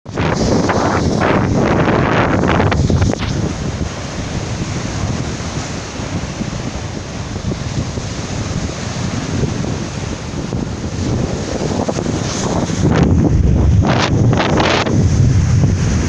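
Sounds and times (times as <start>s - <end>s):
waves washing: 0.1s - 16.0s
wind buffeting microphone: 0.1s - 16.0s.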